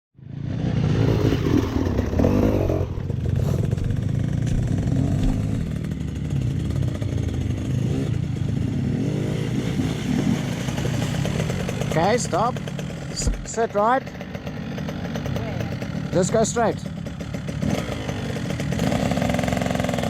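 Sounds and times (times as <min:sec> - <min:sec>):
motorcycle engine at low revs: 0:00.2 - 0:20.0.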